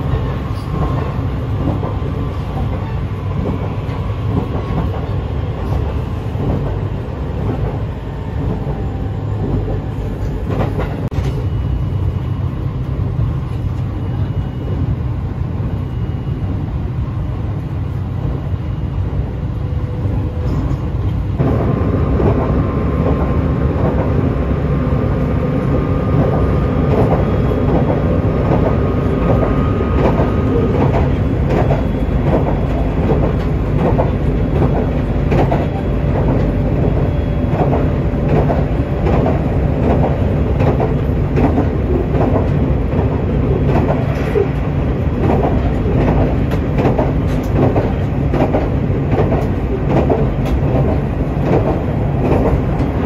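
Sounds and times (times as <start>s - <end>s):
rail joint clicks: 0.0s - 15.9s, 19.0s - 53.0s
train wheels rumbling on rail: 0.0s - 53.0s.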